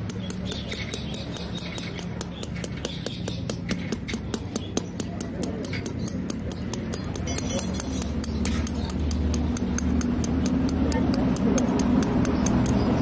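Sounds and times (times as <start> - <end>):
rapid clicking taps: 0.0 - 7.4, 8.2 - 13.0.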